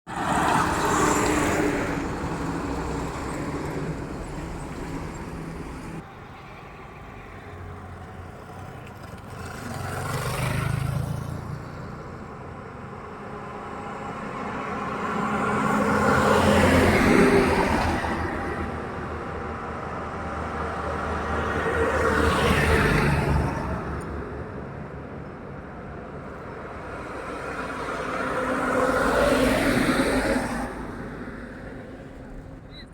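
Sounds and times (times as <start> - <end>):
vehicles passing: 0.1 - 32.9.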